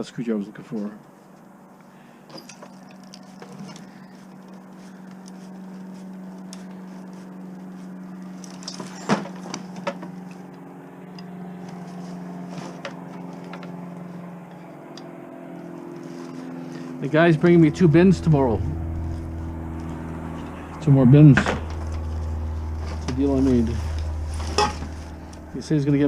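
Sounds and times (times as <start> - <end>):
low hum with overtones: 1.6 - 26.0.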